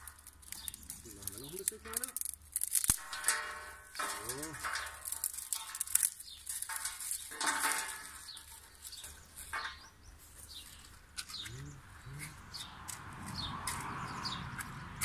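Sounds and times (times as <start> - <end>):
birds chirping: 0.0 - 2.7, 3.3 - 15.0
twigs clattering into metal bowl: 0.0 - 15.0
twigs snapping: 0.0 - 15.0.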